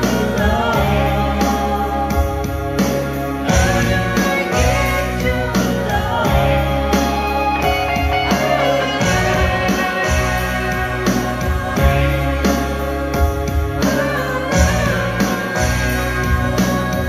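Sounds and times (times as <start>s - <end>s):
woman singing: 0.0s - 13.0s, 13.8s - 17.0s
man singing: 0.0s - 13.1s, 13.7s - 17.0s
backing track with guitar: 0.0s - 17.0s.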